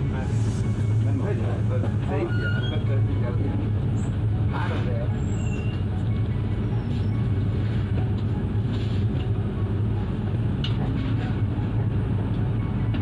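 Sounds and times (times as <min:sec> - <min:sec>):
train running hum and rumble: 0:00.0 - 0:13.0.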